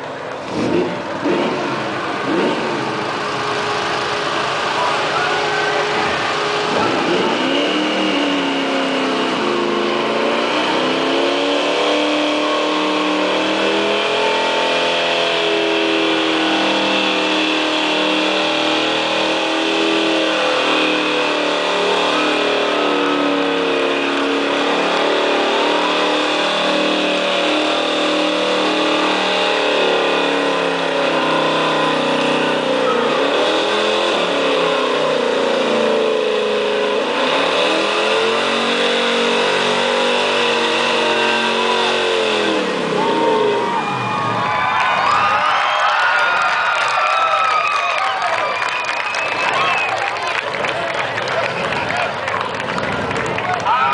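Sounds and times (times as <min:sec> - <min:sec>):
car engine revving hard: 0:00.0 - 0:45.4
tyres spinning on pavement: 0:00.0 - 0:53.9.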